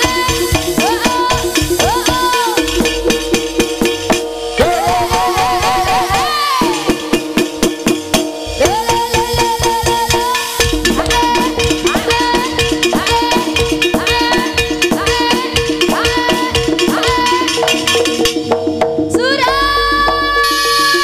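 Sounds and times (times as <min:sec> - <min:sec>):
fast drum strokes: 0:00.0 - 0:21.0.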